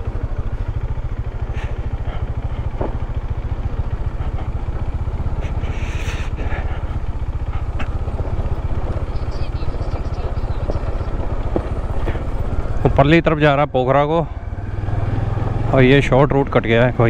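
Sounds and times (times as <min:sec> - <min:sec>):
motorcycle engine on gravel: 0:00.0 - 0:14.2.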